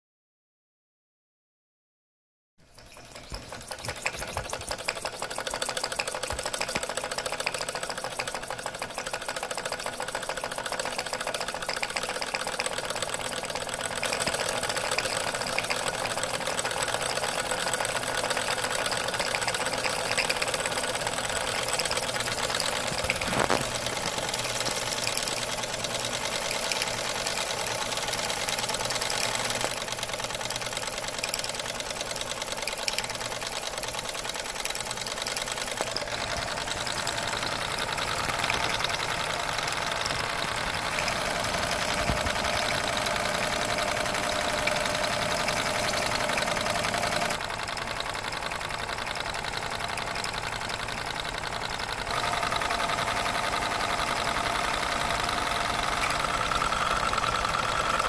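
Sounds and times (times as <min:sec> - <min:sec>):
toy steam locomotive running: 0:02.6 - 0:58.0.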